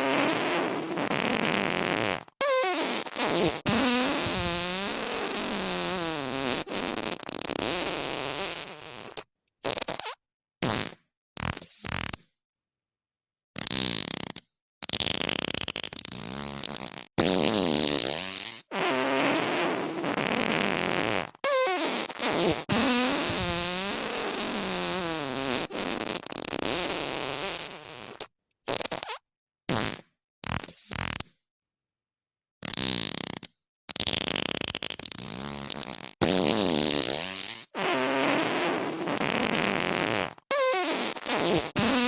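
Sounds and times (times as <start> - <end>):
fart sound effects: 0.0 - 12.3, 13.6 - 31.4, 32.6 - 42.0.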